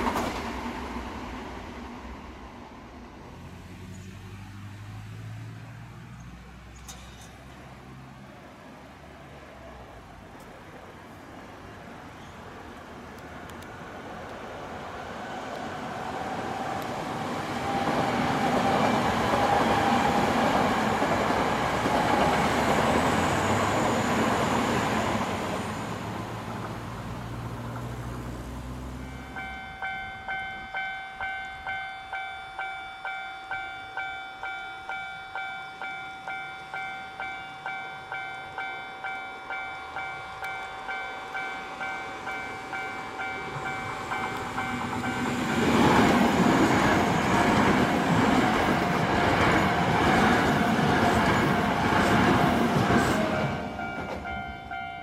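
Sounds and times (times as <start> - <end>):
electric train passing: 0.0 - 55.0.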